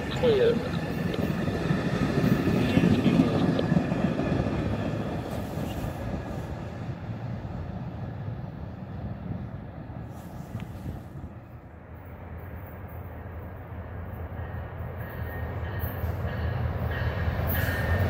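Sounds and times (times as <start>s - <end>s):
diesel train rumbling: 0.0s - 18.0s.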